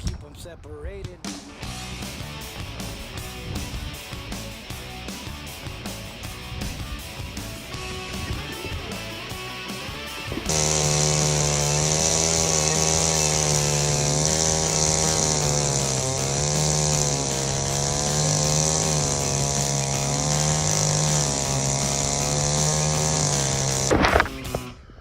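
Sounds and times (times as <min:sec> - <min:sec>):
chainsaw milling lumber: 0:01.6 - 0:24.8.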